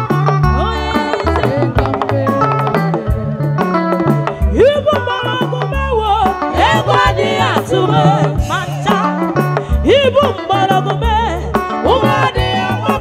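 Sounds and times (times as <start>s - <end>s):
bass notes: 0.0s - 13.0s
drums: 0.0s - 13.0s
woman singing: 0.5s - 3.5s, 4.4s - 13.0s.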